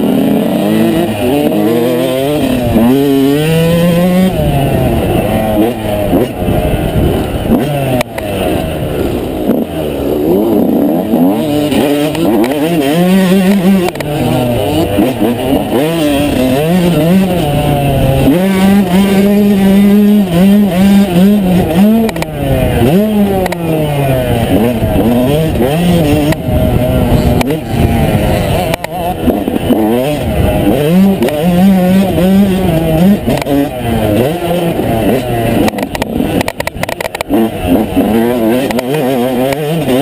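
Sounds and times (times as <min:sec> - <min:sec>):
two-stroke motorcycle engine revving: 0:00.0 - 0:40.0.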